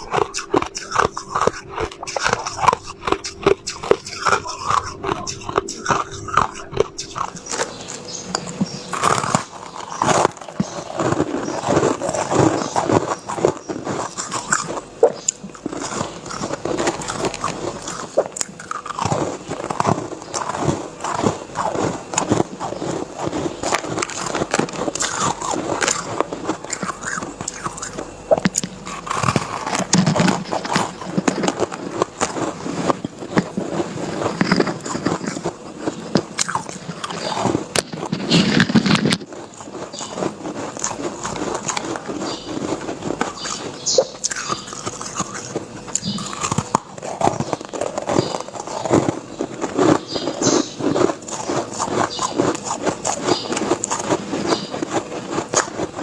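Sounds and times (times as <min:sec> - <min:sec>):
ice crunching while chewed: 0:00.0 - 0:56.0.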